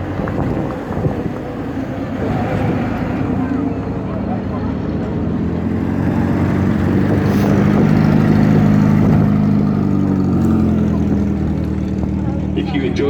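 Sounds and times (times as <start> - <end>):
heavy vehicle passing: 0.0 - 13.0.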